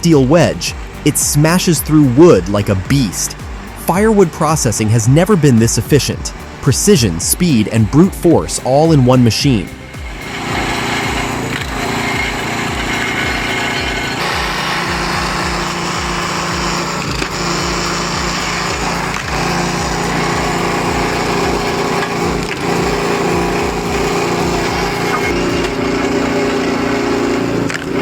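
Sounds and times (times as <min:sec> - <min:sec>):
log splitter engine running: 0:00.0 - 0:28.0.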